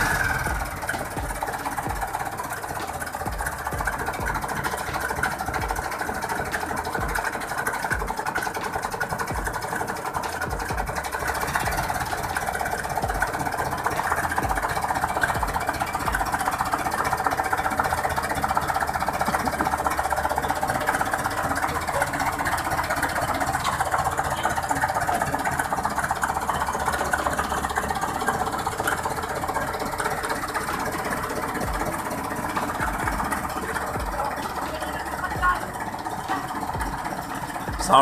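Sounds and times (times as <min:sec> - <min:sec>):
tractor diesel engine idling: 0:00.0 - 0:38.0.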